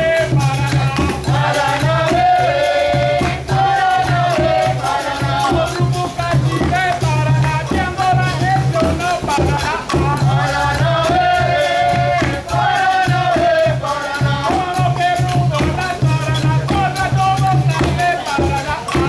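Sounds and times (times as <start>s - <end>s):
group singing: 0.0s - 19.0s
hand drums beating: 0.0s - 19.0s
rattling shaker: 0.0s - 19.0s.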